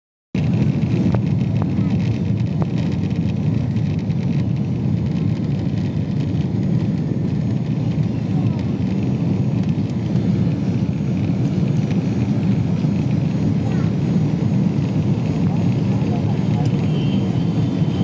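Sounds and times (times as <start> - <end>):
airplane cabin engine roar: 0.4 - 18.0.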